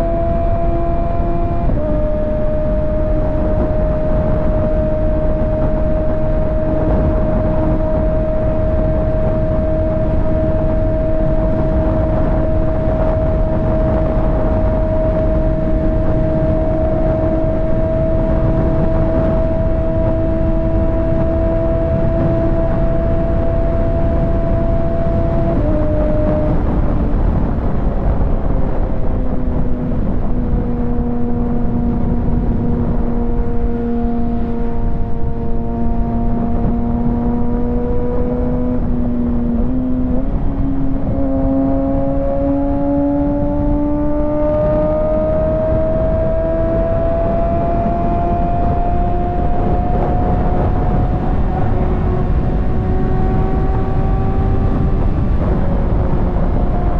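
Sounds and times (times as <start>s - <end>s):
motorcycle engine and exhaust: 0.0s - 56.9s
wind and road noise: 0.0s - 56.9s.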